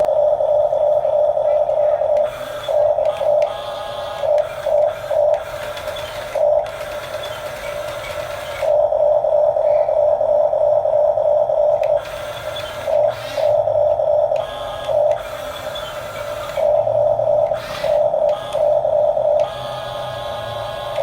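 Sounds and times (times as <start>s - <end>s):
electric motor whine: 0.0s - 21.0s.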